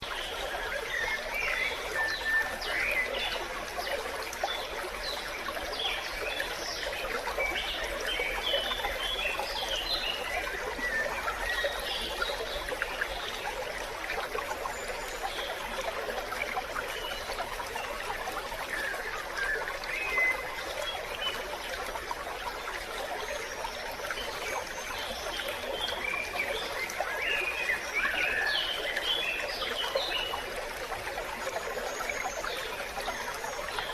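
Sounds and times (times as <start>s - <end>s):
stream babbling over rocks: 0.0s - 33.9s.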